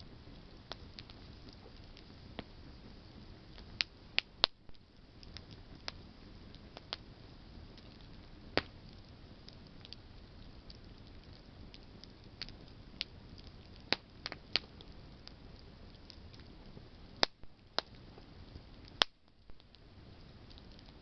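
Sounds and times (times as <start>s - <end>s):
campfire crackling: 0.0s - 21.0s
faint steady hiss: 0.0s - 21.0s.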